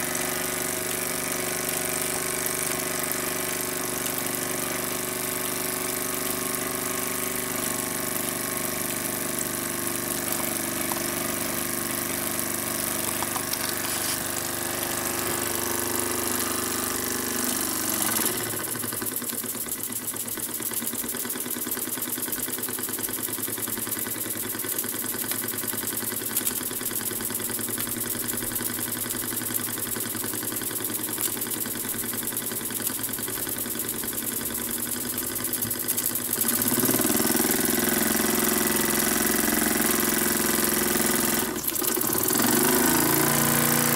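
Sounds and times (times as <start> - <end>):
model steam engine running: 0.0 - 43.9.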